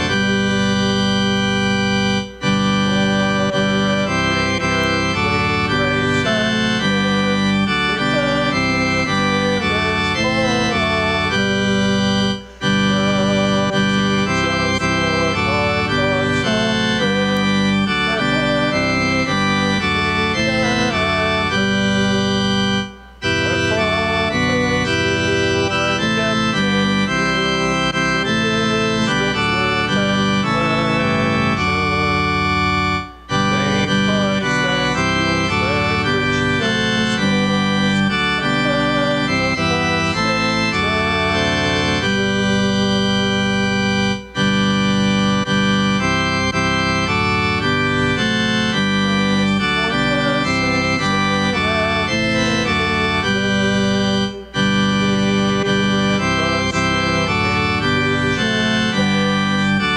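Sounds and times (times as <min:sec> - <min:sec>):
church organ playing hymn: 0:00.0 - 0:59.9.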